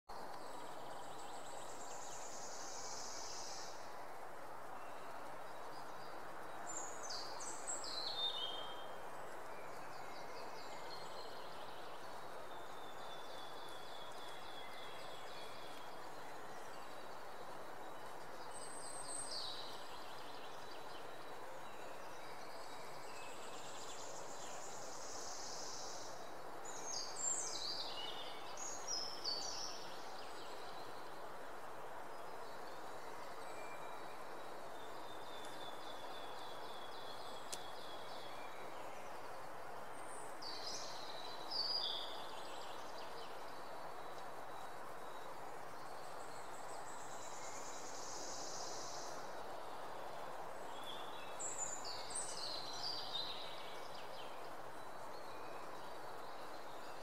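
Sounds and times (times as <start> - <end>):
outdoor background hiss: 0.1 - 57.0.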